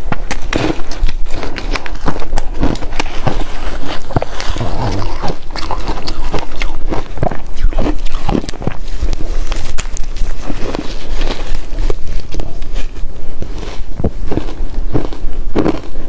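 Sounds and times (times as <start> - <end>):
chewing ice cubes: 0.3 - 16.0.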